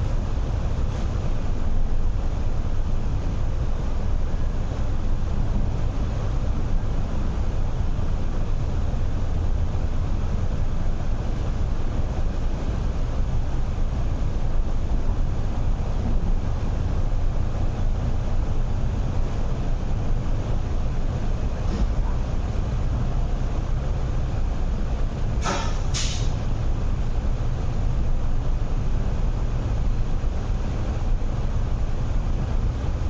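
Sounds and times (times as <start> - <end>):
train rumbling in tunnel: 0.0 - 33.0.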